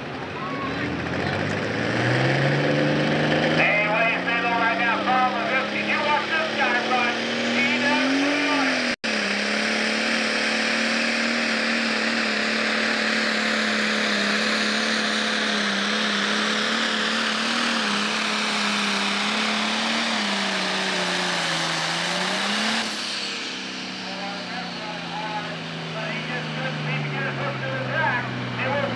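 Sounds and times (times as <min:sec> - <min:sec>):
diesel tractor engine at full throttle: 0:00.0 - 0:28.9.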